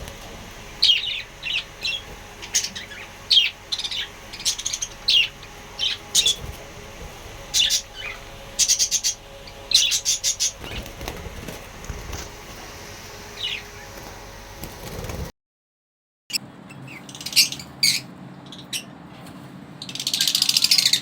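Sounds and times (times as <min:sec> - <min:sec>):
parrots chirping and squawking: 0:00.0 - 0:15.2, 0:16.7 - 0:18.9.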